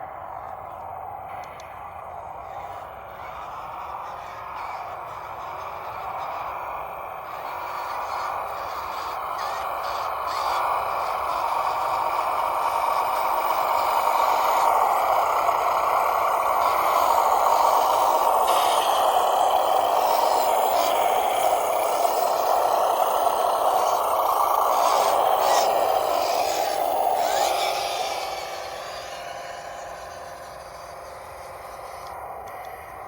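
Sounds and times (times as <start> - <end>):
toy truck electric motor whine: 0.0 - 33.0.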